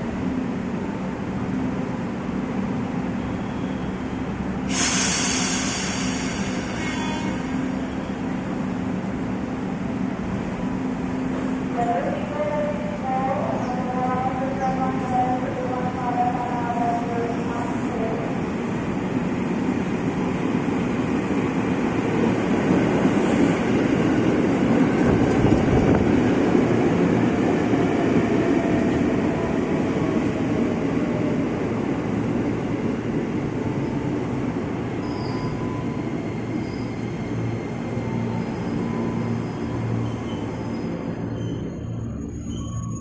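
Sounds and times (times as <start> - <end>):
train passing on tracks: 0.0 - 43.0.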